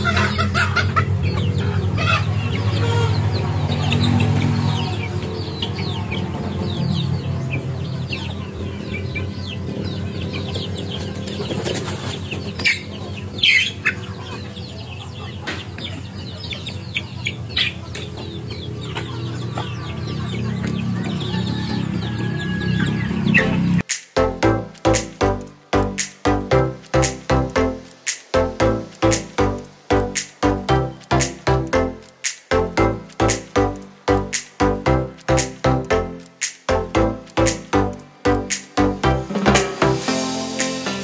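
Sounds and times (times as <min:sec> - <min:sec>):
chicks cheeping and clucking: 0:00.0 - 0:40.7.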